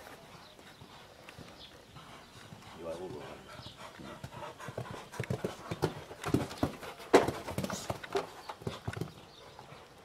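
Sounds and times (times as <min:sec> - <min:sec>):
horse hoofbeats on sand: 0:00.0 - 0:09.8.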